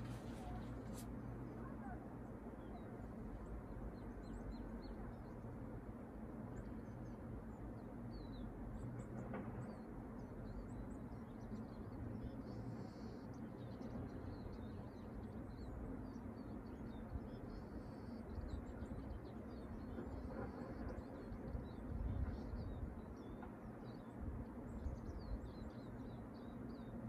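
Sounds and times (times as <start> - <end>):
small birds chirping: 0.0 - 5.6, 6.5 - 27.0
low background noise: 0.0 - 27.0.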